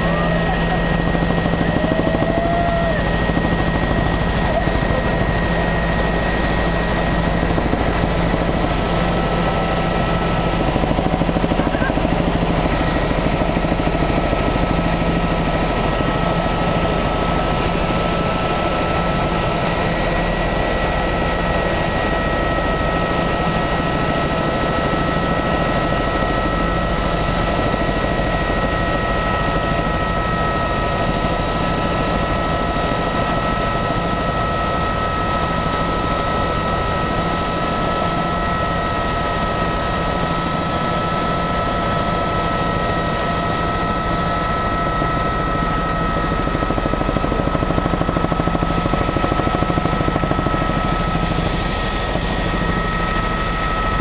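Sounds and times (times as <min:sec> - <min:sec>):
aircraft engine drone in cabin: 0:00.0 - 0:54.0
constant whining tones: 0:00.0 - 0:54.0.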